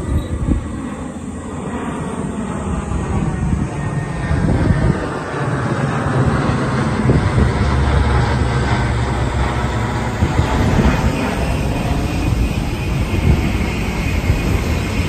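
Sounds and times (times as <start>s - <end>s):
propeller aircraft drone: 0.0s - 15.0s.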